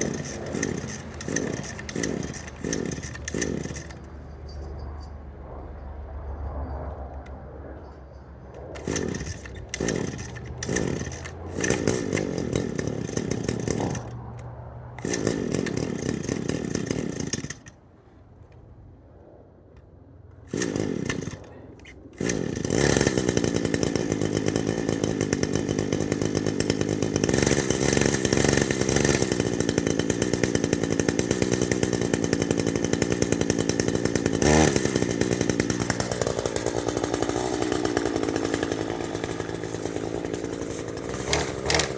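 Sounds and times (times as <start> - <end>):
string trimmer engine starting: 0.0 - 4.7, 8.7 - 17.8, 20.4 - 41.9.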